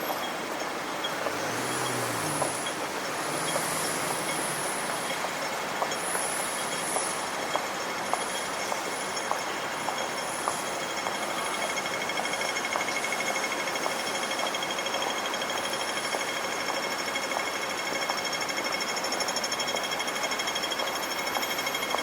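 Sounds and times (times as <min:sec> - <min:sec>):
steel wheels squealing on rails: 0:00.0 - 0:22.0.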